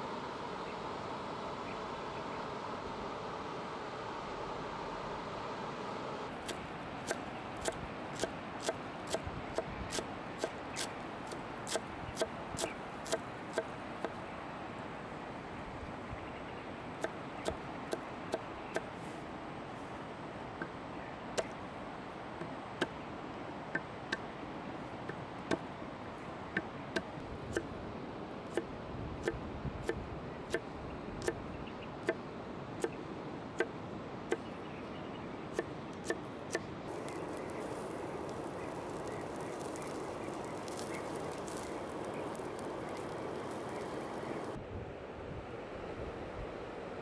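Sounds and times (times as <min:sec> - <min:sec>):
rushing outdoor background noise: 0:00.0 - 0:47.0.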